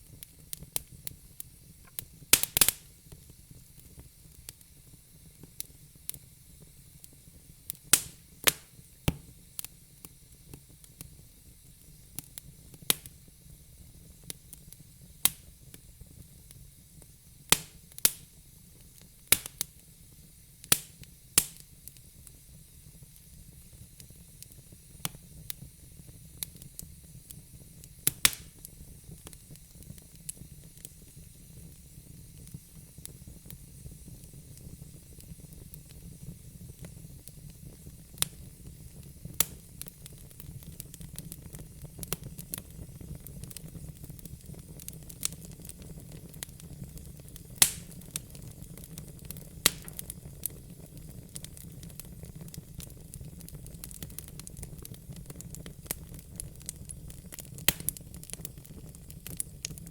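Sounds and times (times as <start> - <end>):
faint steady hiss: 0.0 - 59.9
fire crackling and popping: 0.0 - 59.9.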